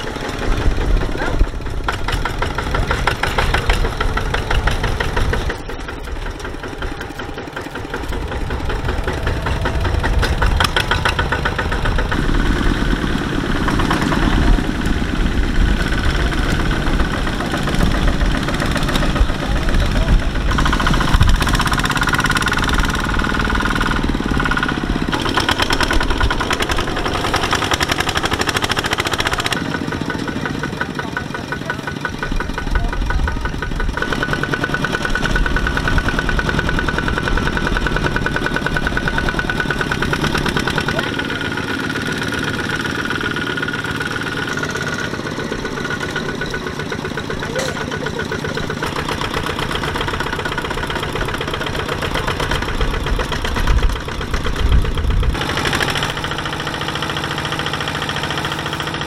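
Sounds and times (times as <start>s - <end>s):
diesel tractor engines chugging: 0.0s - 59.0s.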